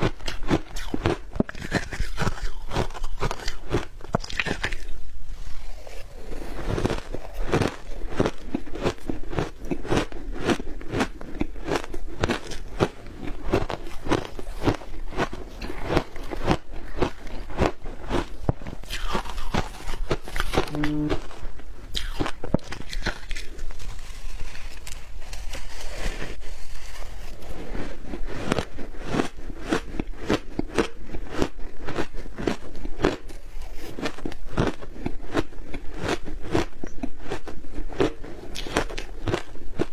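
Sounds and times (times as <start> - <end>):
crunchy ice being chewed: 0.0 - 39.9.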